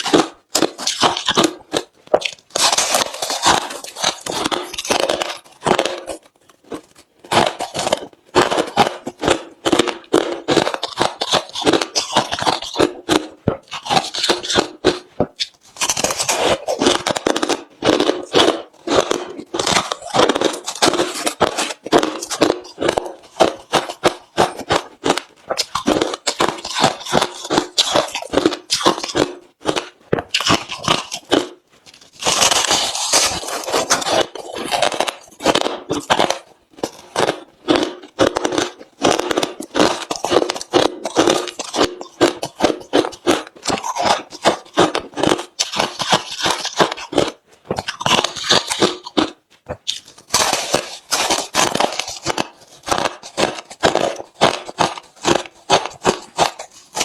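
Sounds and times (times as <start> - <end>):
chewing crushed ice: 0.0 - 57.0.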